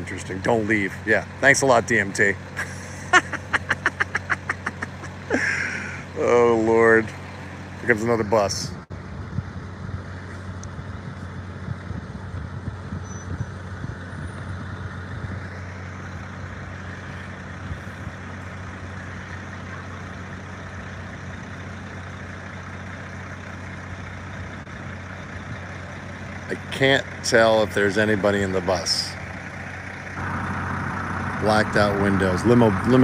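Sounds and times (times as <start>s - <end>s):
bus diesel engine: 0.0s - 33.0s
road and tyre noise: 0.0s - 33.0s.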